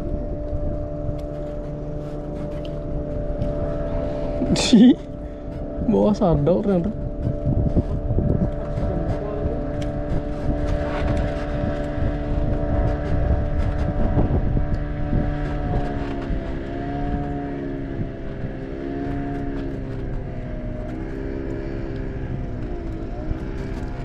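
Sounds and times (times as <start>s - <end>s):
motor engine humming: 0.0s - 24.0s
wind rumbling on microphone: 0.0s - 24.0s.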